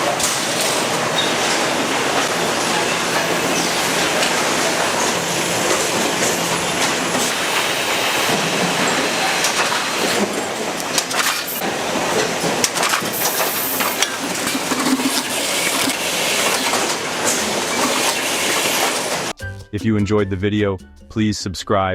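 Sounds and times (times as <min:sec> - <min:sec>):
production line machinery clattering: 0:00.0 - 0:19.4.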